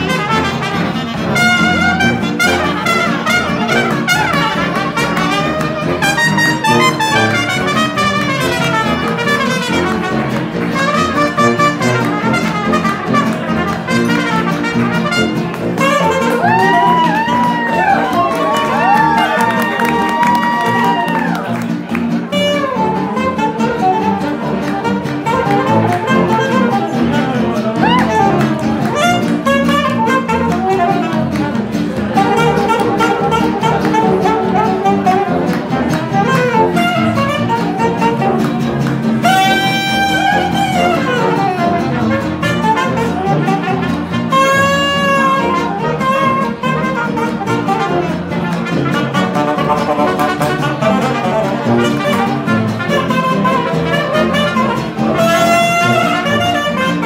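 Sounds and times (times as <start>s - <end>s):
trumpet held notes: 0.0s - 38.6s, 39.2s - 57.0s
small jazz band playing: 0.0s - 57.0s.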